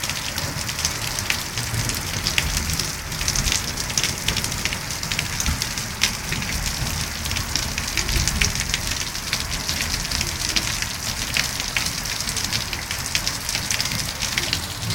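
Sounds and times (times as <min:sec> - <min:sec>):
rain hissing: 0:00.0 - 0:14.9
raindrops striking sharply: 0:00.0 - 0:14.9.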